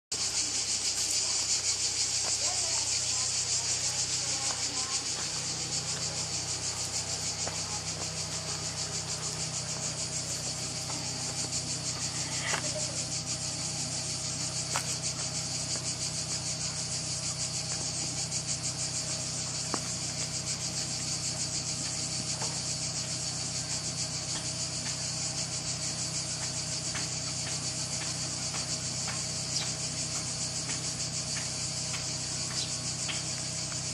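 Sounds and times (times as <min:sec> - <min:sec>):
insects singing: 0:00.1 - 0:33.9.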